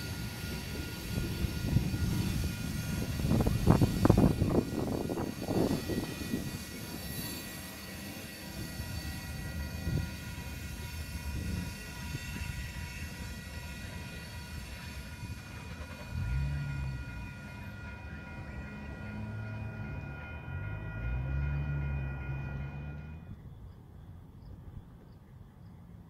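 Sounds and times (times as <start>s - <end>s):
freight train wheels clattering on rails: 0.0s - 23.1s.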